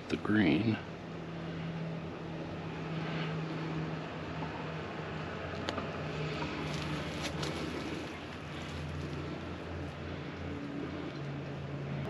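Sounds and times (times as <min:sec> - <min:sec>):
constant rushing noise: 0:00.0 - 0:12.0
low mechanical hum: 0:00.0 - 0:12.0.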